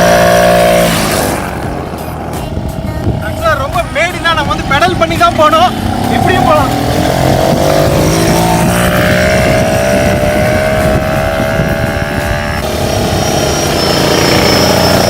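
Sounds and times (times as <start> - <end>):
moped engine buzzing: 0.0 - 15.0.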